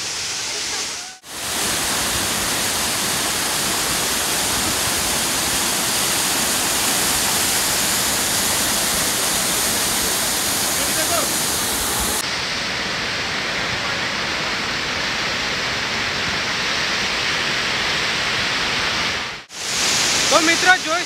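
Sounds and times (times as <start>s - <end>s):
waterfall rushing over rock: 0.0s - 21.0s.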